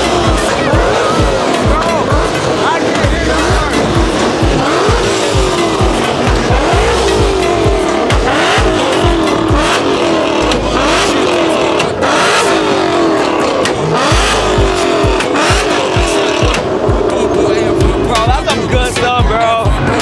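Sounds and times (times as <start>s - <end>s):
car engines revving: 0.0s - 20.0s
music with thumping bass beat: 0.0s - 20.0s.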